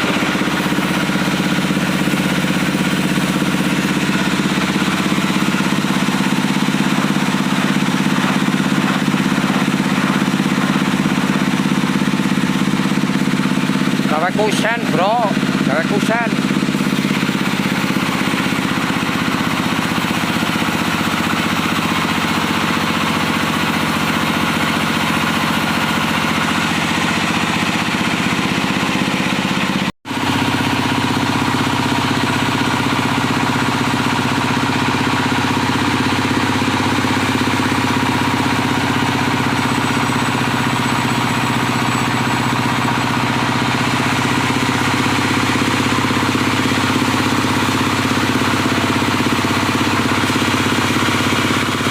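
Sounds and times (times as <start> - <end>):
sawmill diesel engine running: 0.0 - 51.9.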